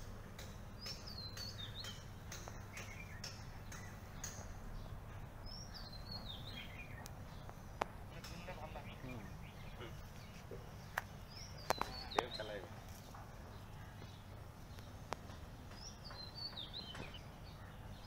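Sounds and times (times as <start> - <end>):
steady low hum: 0.0 - 16.3
bird singing warbled phrases: 0.4 - 18.0.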